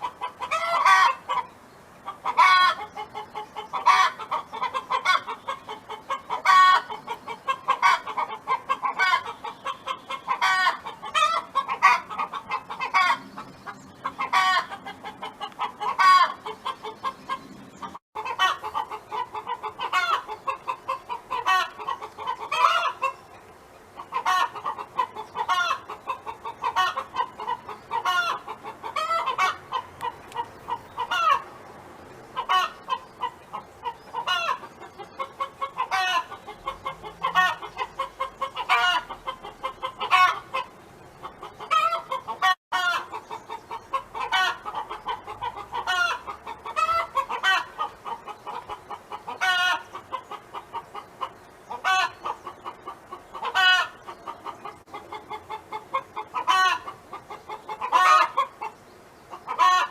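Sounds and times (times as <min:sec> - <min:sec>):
hen clucking and cackling: 0:00.0 - 0:31.7, 0:32.3 - 0:59.9.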